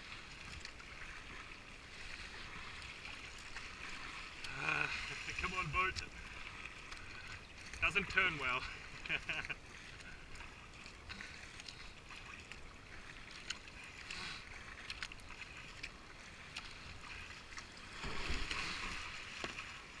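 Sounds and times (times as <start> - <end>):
kayak paddle splashing: 0.0 - 20.0.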